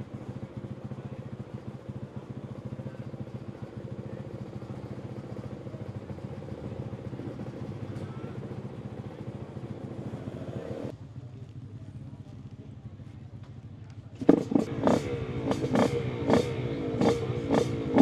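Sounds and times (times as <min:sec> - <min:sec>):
two-stroke motorcycle engine idling: 0:00.0 - 0:18.0.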